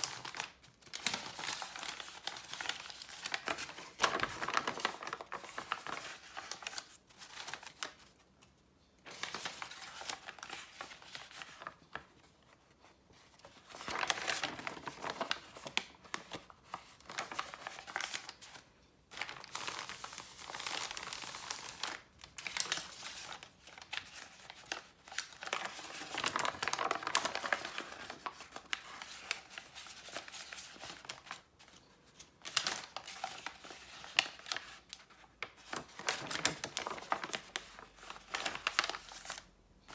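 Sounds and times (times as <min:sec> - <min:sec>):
paper rustling and crinkling: 0:00.0 - 0:08.3, 0:09.1 - 0:39.9.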